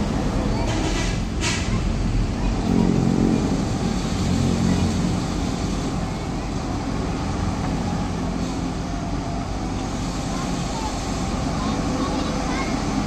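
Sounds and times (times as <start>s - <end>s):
heavy truck engines running: 0.0s - 13.0s.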